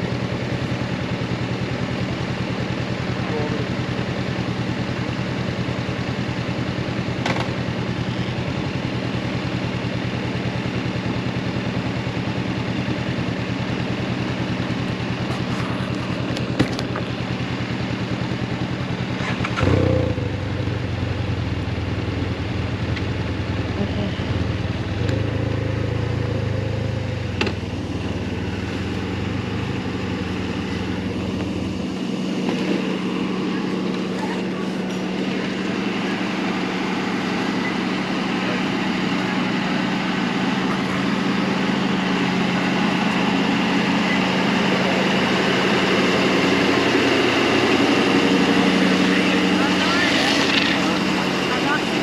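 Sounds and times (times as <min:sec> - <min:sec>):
deeper engine sound: 0:00.0 - 0:52.0
motorcycle engine idling: 0:00.0 - 0:52.0.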